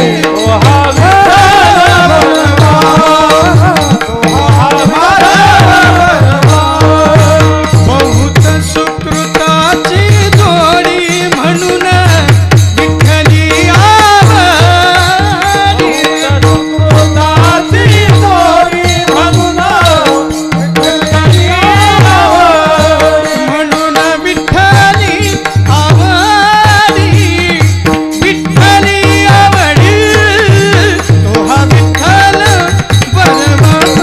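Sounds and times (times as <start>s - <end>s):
man singing devotional melody: 0.0s - 34.0s.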